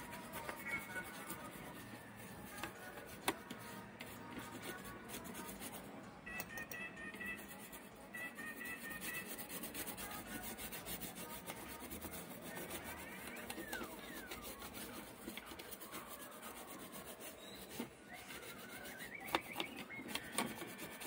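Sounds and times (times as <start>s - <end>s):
toothbrush scrubbing circuit board: 0.0s - 5.9s, 7.1s - 21.0s.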